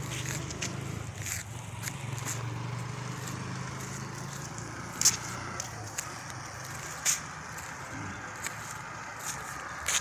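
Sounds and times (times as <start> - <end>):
footsteps on wet road: 0.0 - 10.0.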